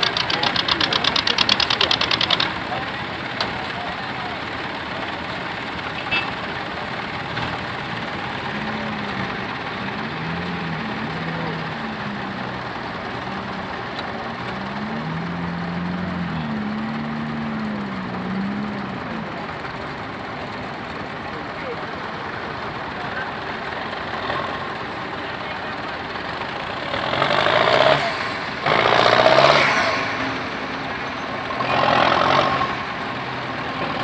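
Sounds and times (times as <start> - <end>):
tractor engines running: 0.0 - 34.0.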